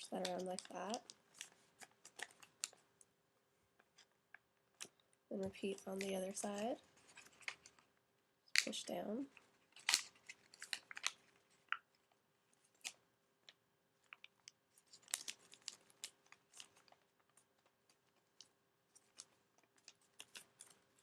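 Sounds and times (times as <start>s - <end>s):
paper folding crackles: 0.0s - 2.8s, 4.8s - 7.9s, 8.6s - 21.0s.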